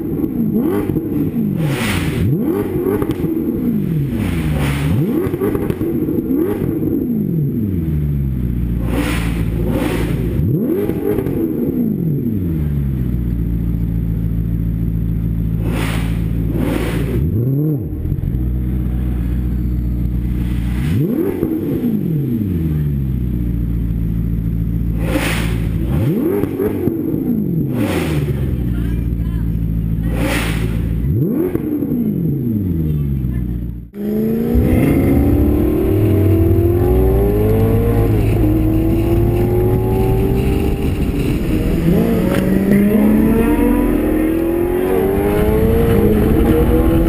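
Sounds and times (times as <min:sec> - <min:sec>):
car engines idling: 0:00.0 - 0:47.0
car engines revving: 0:00.0 - 0:47.0.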